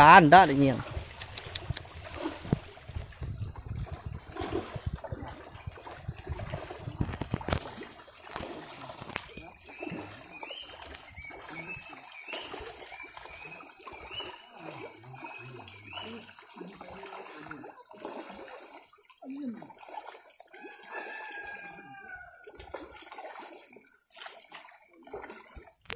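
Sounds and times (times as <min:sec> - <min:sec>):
water splashing and trickling: 0:00.0 - 0:25.9.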